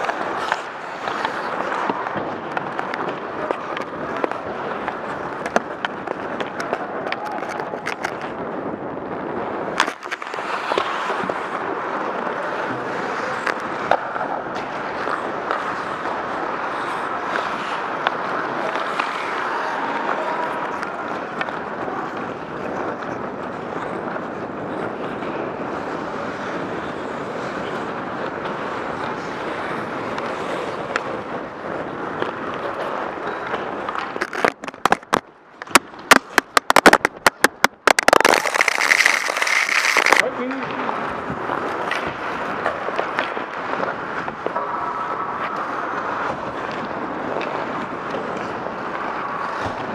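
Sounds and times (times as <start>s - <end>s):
skates on ice: 0.0s - 49.9s.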